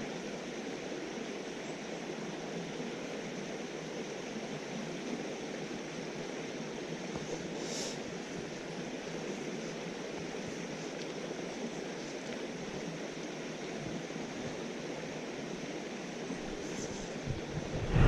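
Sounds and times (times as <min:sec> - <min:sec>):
stream water running over rocks: 0:00.0 - 0:17.6.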